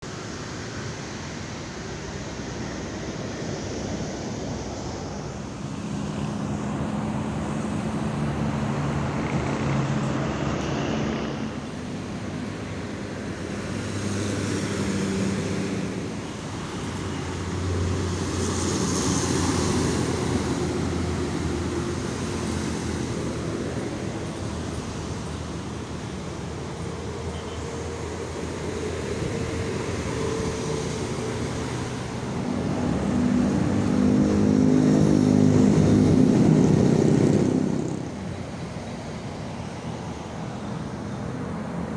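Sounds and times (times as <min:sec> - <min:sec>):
buses passing by: 0:00.0 - 0:41.9.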